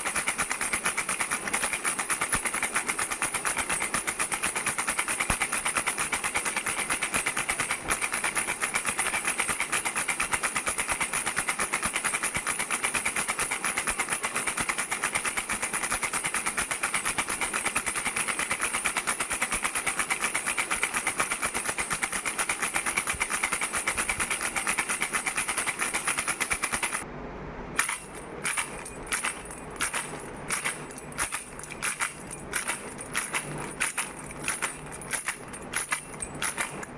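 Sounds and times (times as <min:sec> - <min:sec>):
baby rattle shaken: 0:00.0 - 0:27.0, 0:27.8 - 0:36.9.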